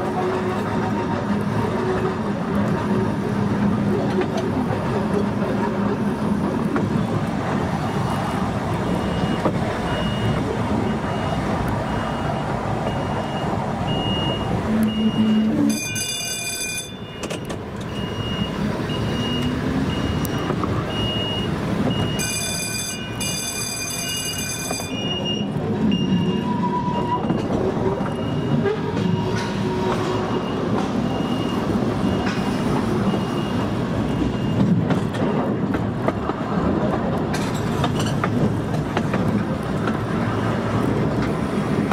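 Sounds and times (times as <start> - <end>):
train motor and wheels rumbling: 0.0 - 41.9.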